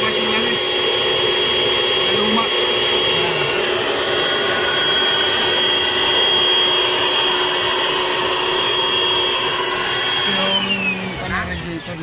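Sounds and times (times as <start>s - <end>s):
air blower whining: 0.0s - 12.0s.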